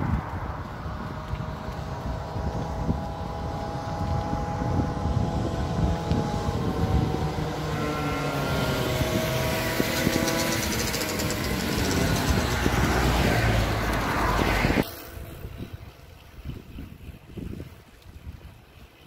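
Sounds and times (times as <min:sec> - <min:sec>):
vehicles passing on road: 0:00.0 - 0:16.5
wind rumble on microphone: 0:00.0 - 0:19.0.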